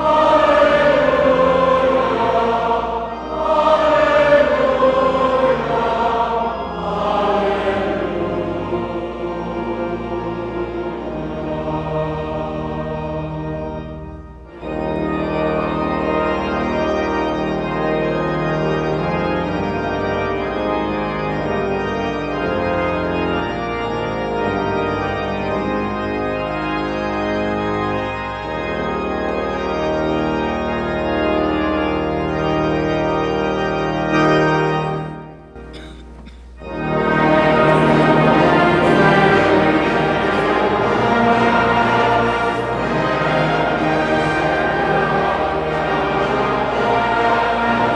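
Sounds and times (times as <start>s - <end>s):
pipe organ chords: 0.0s - 47.9s.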